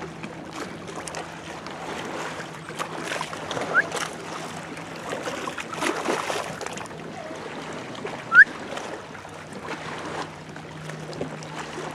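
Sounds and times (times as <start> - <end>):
water splashing around dog: 0.0 - 11.9.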